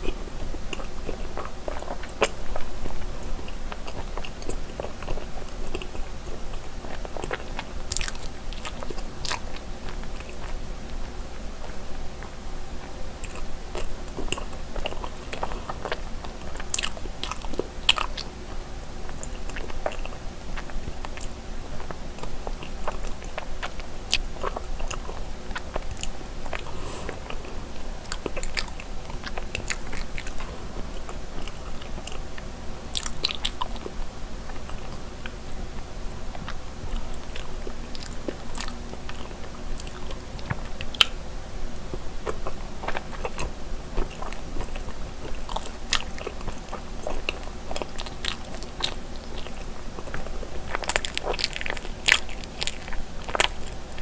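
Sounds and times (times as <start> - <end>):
person chewing soft food: 0.0 - 54.0
steady low hum: 0.0 - 54.0.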